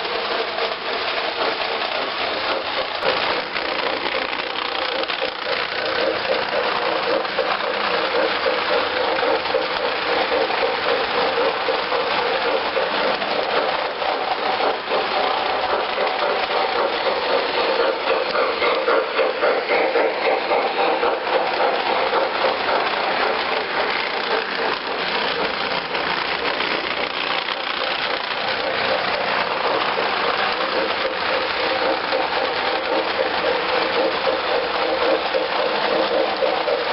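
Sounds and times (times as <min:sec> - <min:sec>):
model train rattling on track: 0:00.0 - 0:36.9.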